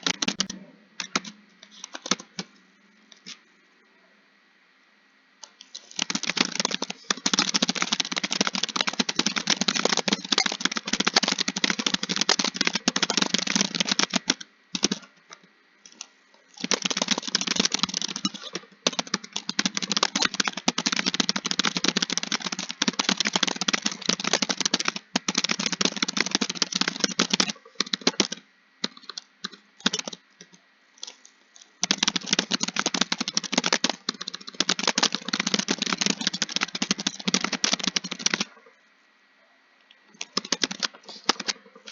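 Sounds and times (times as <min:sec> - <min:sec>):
fast typing on keyboard: 0:00.0 - 0:02.5, 0:05.4 - 0:15.1, 0:15.9 - 0:38.6, 0:40.2 - 0:41.9.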